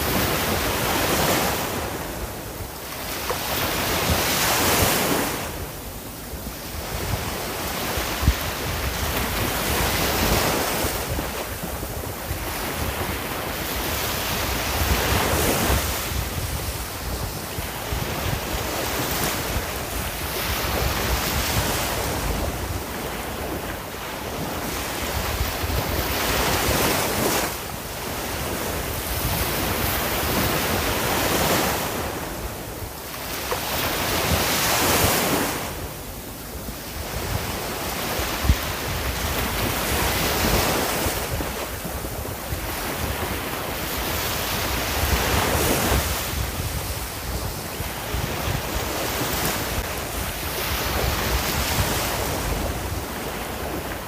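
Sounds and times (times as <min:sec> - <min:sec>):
sea waves washing on shore: 0:00.0 - 0:54.0
wind rumbling on microphone: 0:00.0 - 0:54.0.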